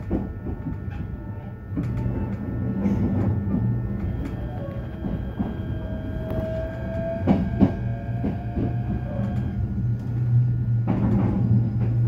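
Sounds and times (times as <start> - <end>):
train running hum: 0.0 - 12.0.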